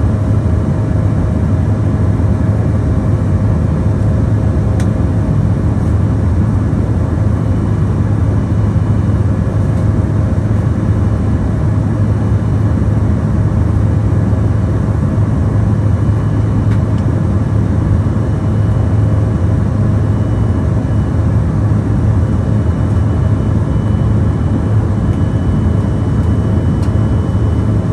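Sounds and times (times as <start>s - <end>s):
turbofan engines droning: 0.0s - 27.9s.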